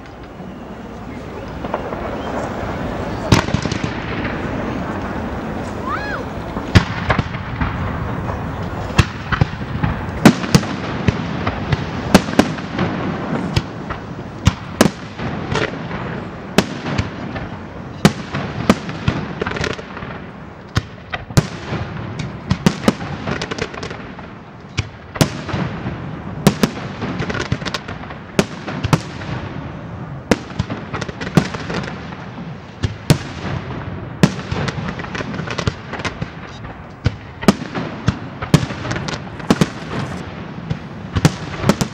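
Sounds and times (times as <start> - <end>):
fireworks bursts and bangs: 0.0 - 41.9.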